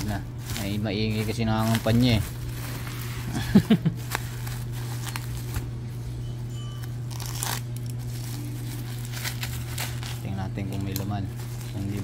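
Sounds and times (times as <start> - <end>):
bubble wrap crinkling: 0.0 - 5.9, 6.8 - 12.0
steady low hum: 0.0 - 12.0.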